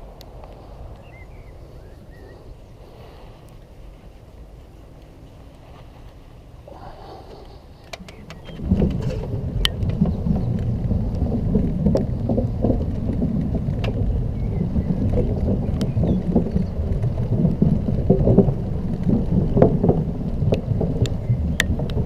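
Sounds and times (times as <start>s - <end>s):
scooter ride vibration: 0.0s - 22.0s
wind rumble: 0.0s - 22.0s.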